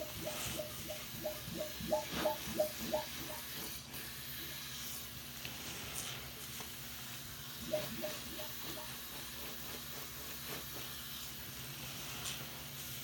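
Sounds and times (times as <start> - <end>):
sponge squelching: 0.0 - 6.8, 7.6 - 13.0.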